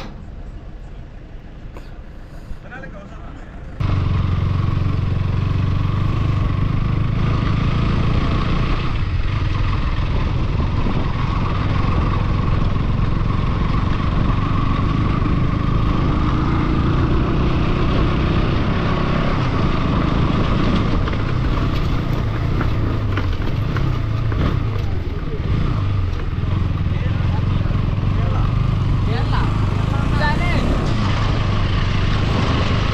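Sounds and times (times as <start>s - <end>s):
low engine rumble: 0.0s - 32.9s.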